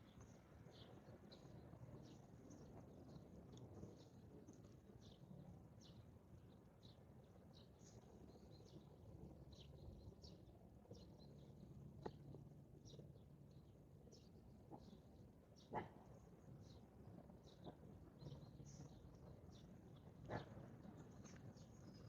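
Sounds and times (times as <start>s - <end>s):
low steady background rumble: 0.0s - 22.0s.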